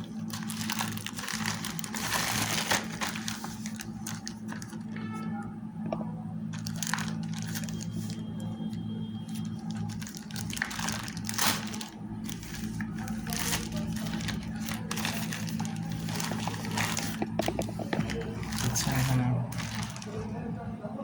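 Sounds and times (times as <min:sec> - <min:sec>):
packaging crinkling and rustling: 0:00.0 - 0:05.0, 0:06.5 - 0:20.4
steady low hum: 0:00.0 - 0:21.0.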